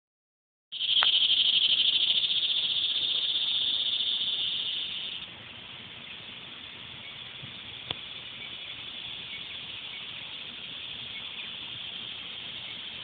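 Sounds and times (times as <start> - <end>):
cicadas buzzing: 0.7 - 13.0.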